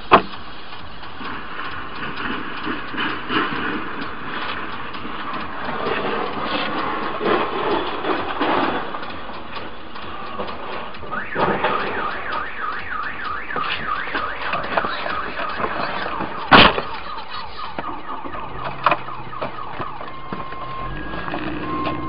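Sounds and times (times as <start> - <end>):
horse-drawn cart clattering: 0.0 - 22.0.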